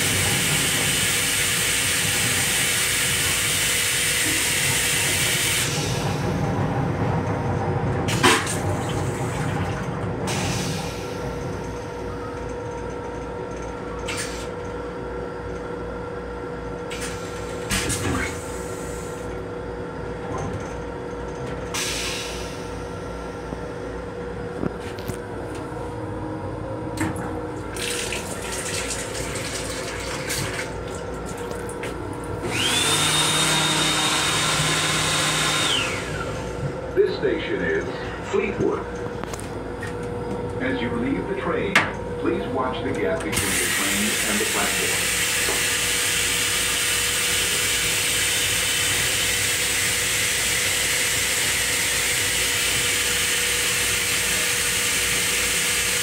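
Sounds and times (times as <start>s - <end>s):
railcar running hum and rumble: 0.0s - 56.0s.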